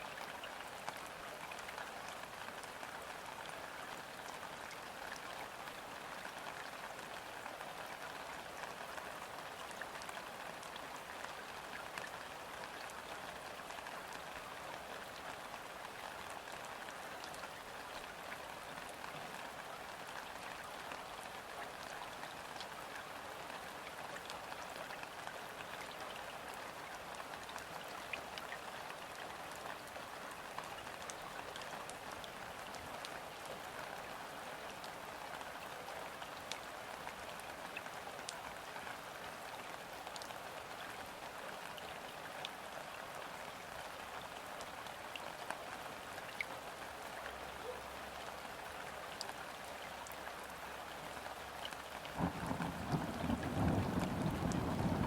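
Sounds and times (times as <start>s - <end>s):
rain falling on river: 0.0s - 55.0s.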